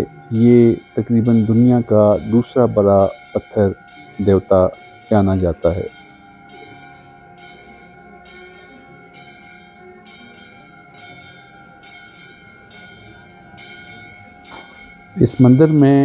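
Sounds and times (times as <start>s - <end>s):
bell-like tones: 0.0s - 16.0s
quiet background music: 0.0s - 16.0s.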